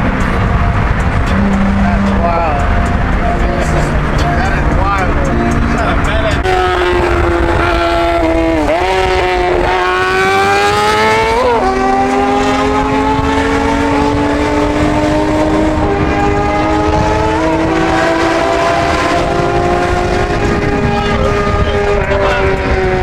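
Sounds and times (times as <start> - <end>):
car engine under load: 0.0 - 23.0.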